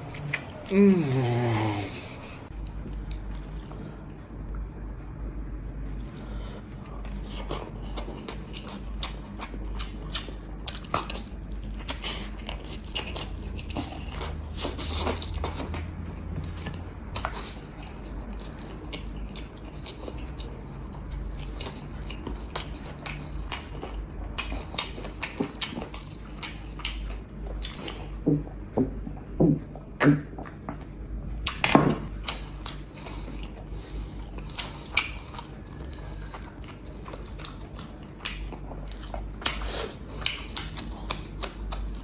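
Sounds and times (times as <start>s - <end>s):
steady low hum: 0.0s - 42.0s
wet chewing and lip smacking: 2.5s - 4.9s, 5.9s - 30.7s, 31.4s - 42.0s.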